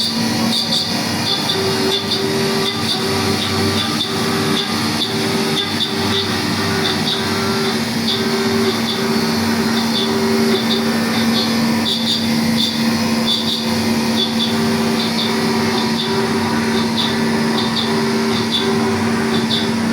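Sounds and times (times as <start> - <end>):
milling machine humming: 0.0 - 19.9.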